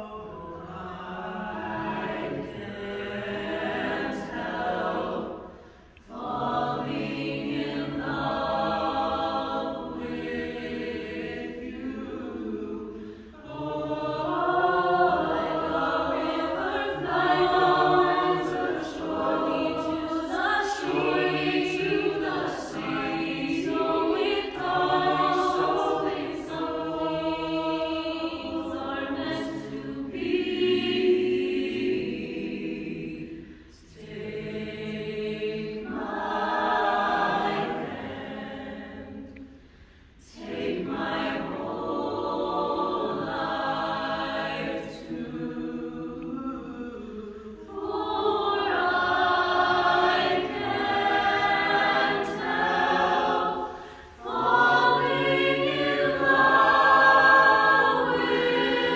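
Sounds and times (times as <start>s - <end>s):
choir singing in harmony: 0.0s - 58.9s.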